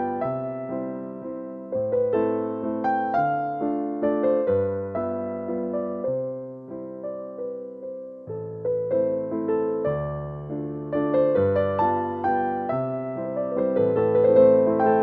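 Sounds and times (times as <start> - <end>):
soft piano playing slow chords: 0.0 - 15.0.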